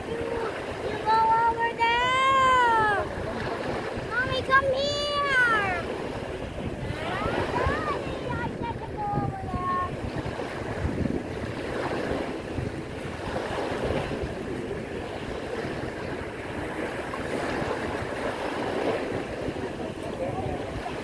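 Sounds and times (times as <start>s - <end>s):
small waves breaking on stony shore: 0.0s - 21.0s
wind buffeting microphone: 0.0s - 21.0s.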